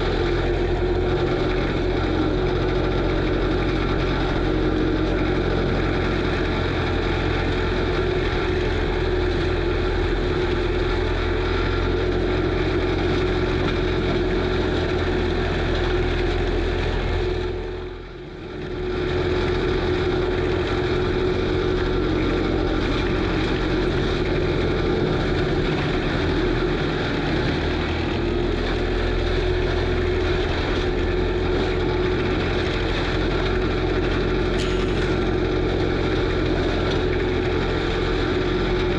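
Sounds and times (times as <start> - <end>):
diesel engine running: 0.0 - 38.9
mulcher whine: 0.0 - 38.9.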